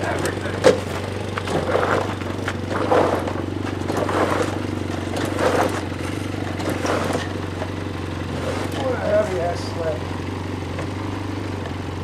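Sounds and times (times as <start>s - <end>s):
gravel crunching and scraping: 0.0s - 12.0s
snowmobile engine running: 0.0s - 12.0s.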